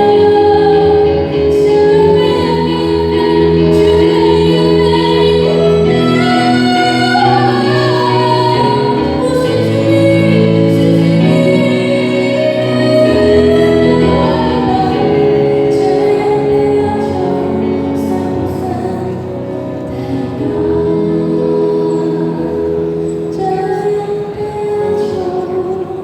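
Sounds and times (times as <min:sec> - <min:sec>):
person singing long notes: 0:00.0 - 0:26.0.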